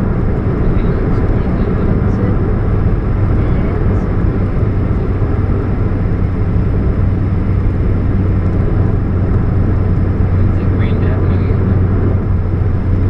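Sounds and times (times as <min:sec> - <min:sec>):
car engine running: 0:00.0 - 0:13.0
deep exhaust hum: 0:00.0 - 0:13.0
road noise: 0:00.0 - 0:13.0.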